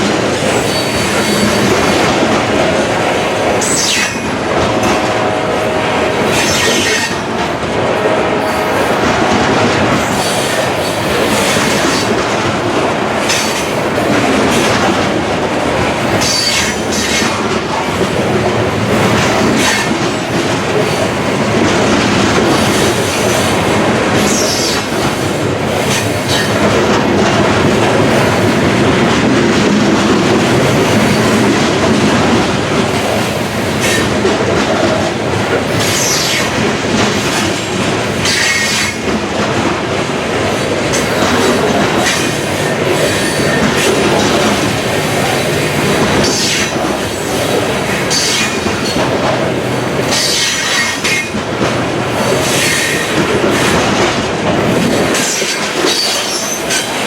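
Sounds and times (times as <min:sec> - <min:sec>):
rail joint clatter: 0:00.0 - 0:57.0
train wheels rumbling on rails: 0:00.0 - 0:57.0.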